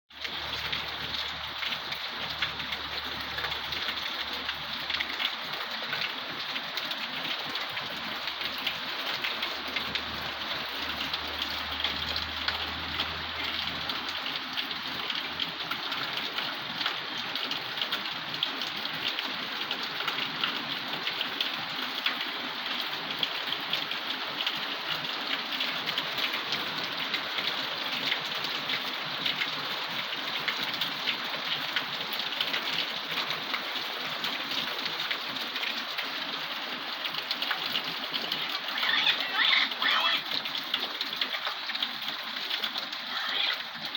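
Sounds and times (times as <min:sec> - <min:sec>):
steady rain falling: 0:00.1 - 0:43.9.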